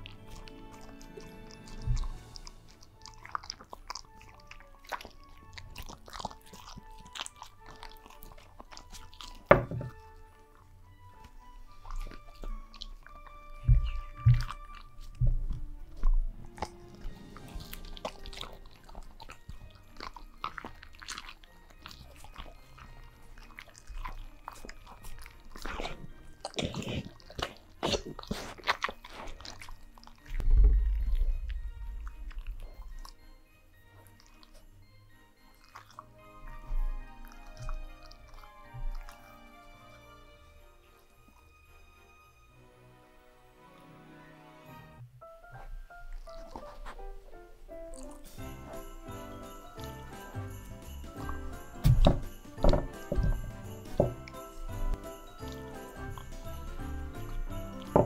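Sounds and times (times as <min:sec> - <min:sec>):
dogs crunching and chewing: 0:00.0 - 0:42.5, 0:45.5 - 0:58.0
background music: 0:00.0 - 0:58.0.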